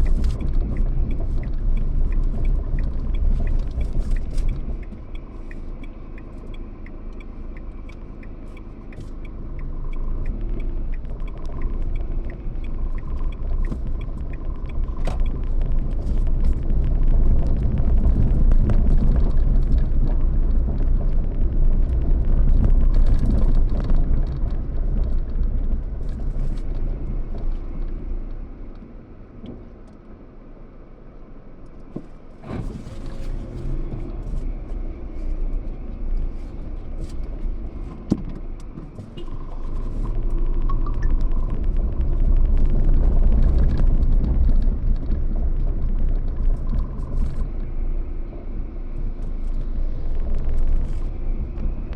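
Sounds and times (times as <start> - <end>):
car engine and road rumble: 0.0 - 51.9.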